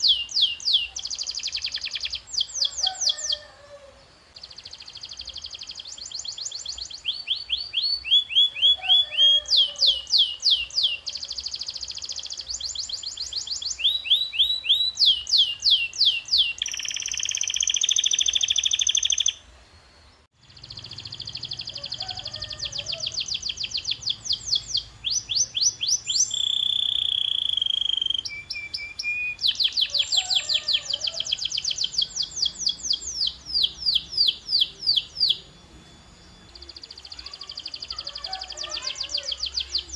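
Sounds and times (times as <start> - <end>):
canary singing: 0.0 - 19.5, 20.4 - 39.9.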